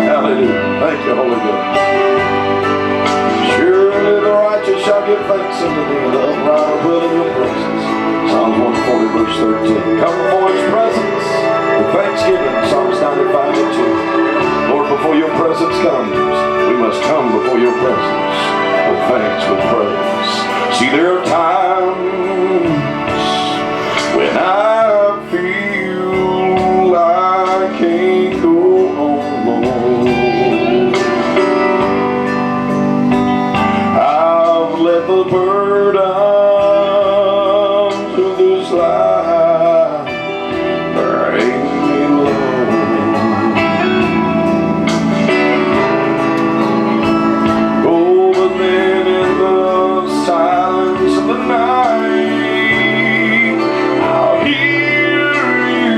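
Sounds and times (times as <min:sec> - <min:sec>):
gospel worship music with singing: 0:00.0 - 0:55.9.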